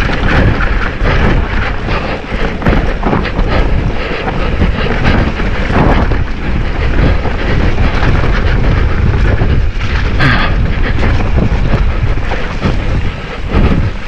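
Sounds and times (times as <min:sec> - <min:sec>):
bike rattling: 0:00.0 - 0:14.0
bike tyres rumbling on dirt: 0:00.0 - 0:14.0
wind buffeting microphone: 0:00.0 - 0:14.0.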